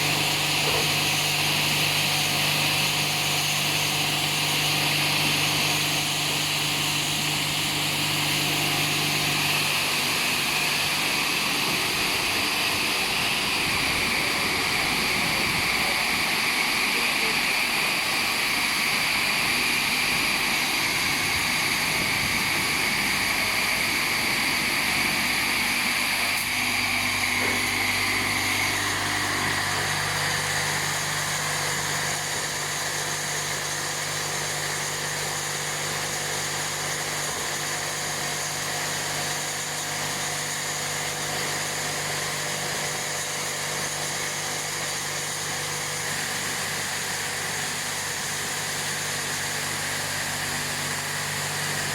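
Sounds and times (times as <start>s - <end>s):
high-pressure water spray hissing: 0.0s - 51.9s
pump motor hum: 0.0s - 51.9s.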